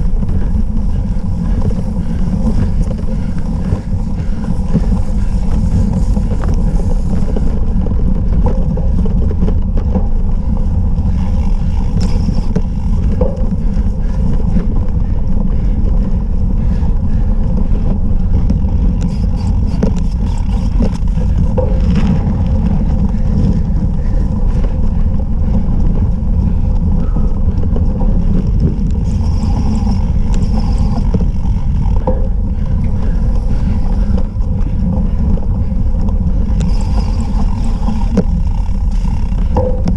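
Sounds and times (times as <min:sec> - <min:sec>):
bike rolling over grass: 0:00.0 - 0:39.9
faint clicks and rattles: 0:00.0 - 0:39.9
wind buffeting: 0:00.0 - 0:39.9.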